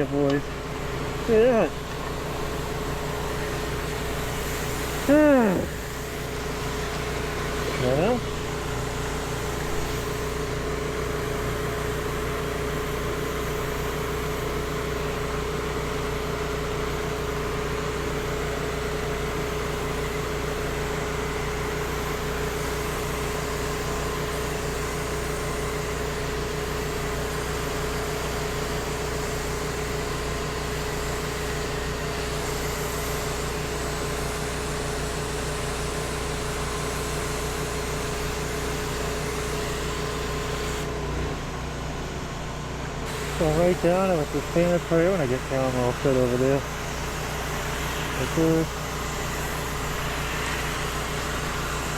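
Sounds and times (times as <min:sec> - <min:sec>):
small gas engine running: 0:00.0 - 0:51.9.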